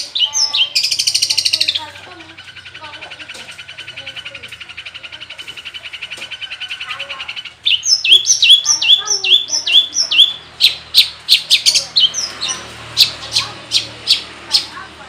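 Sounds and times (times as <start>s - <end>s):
shrike singing: 0.0s - 15.0s.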